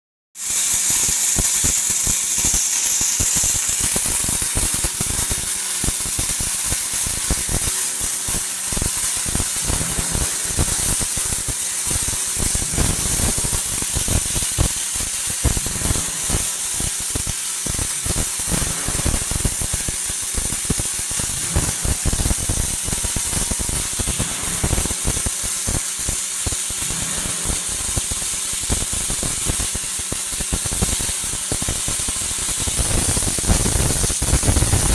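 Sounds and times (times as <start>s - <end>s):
welding arc crackling: 0.4s - 34.9s.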